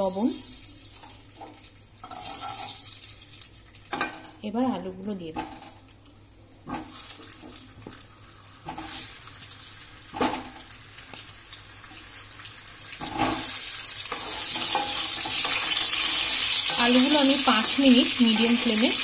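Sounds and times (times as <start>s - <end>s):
potatoes splashing into hot oil: 0.0s - 4.6s, 5.6s - 19.0s
oil frying hiss: 0.0s - 19.0s.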